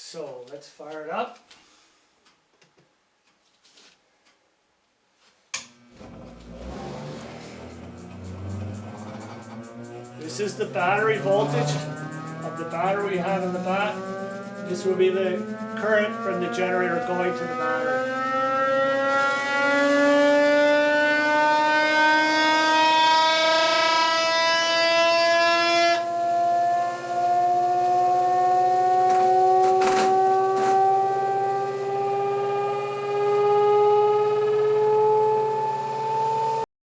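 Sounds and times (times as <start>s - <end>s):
electric motor whine rising: 5.6s - 36.7s.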